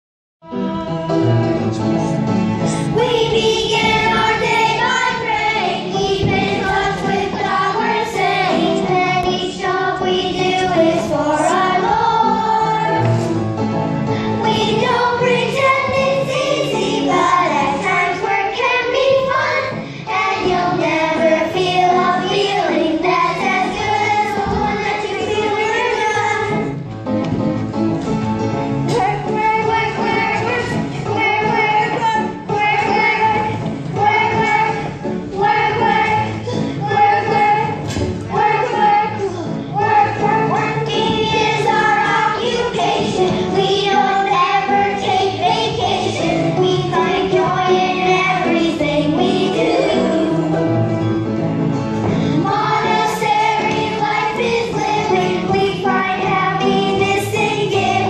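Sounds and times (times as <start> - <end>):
musical accompaniment: 0.4 - 58.0
children singing together: 2.7 - 13.4, 14.1 - 26.8, 28.9 - 50.9, 52.1 - 58.0.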